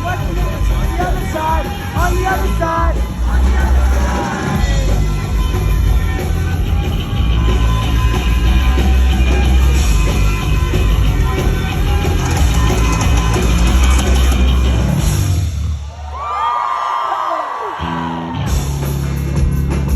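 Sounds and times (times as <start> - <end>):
deep driving bass: 0.0 - 15.7, 18.3 - 19.9
live rock band playing: 0.0 - 15.8, 17.9 - 19.9
heavy drum kit: 0.0 - 16.1, 18.2 - 19.9.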